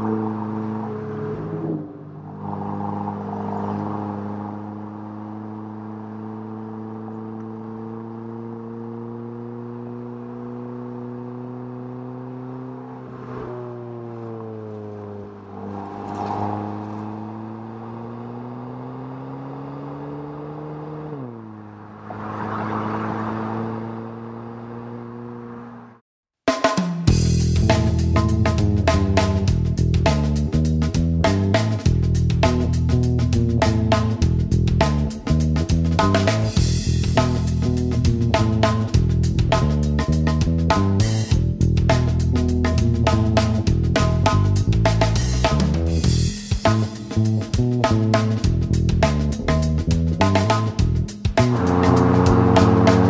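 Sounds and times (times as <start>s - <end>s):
car engine running: 0.0s - 26.0s, 27.1s - 53.0s
wind and road noise: 0.0s - 26.0s, 27.2s - 53.0s.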